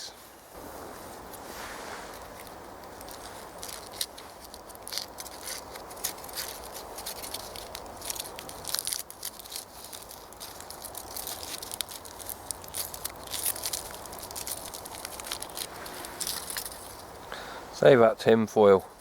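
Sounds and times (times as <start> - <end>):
tin foil crinkling: 1.3 - 17.2.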